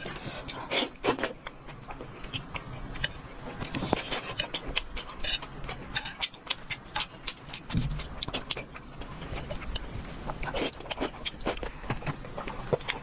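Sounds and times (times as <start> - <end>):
chewing and mouth smacks: 0.4 - 13.0.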